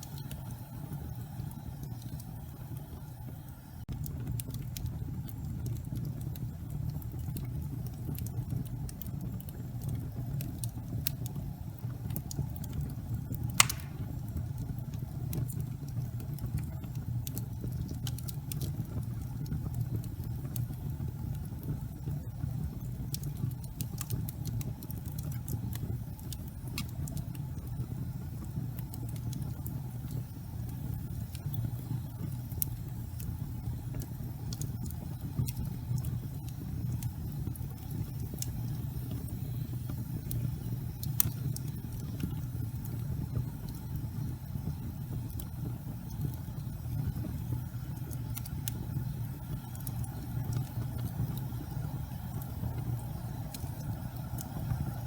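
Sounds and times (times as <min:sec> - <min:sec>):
fire crackling and popping: 0:00.0 - 0:55.0
fireplace fire rumbling: 0:00.0 - 0:55.0.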